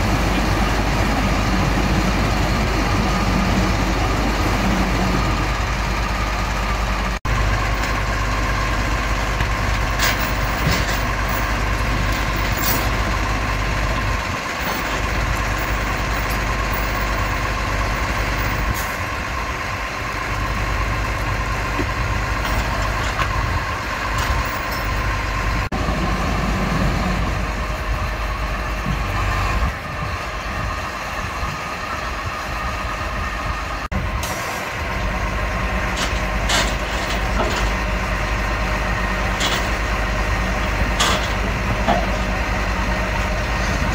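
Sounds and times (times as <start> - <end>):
diesel truck engine idling: 0.0 - 43.9.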